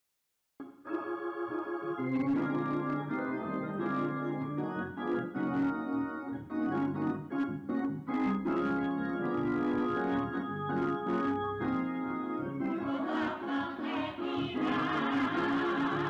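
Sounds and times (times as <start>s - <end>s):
organ playing held chords: 0.6s - 16.0s.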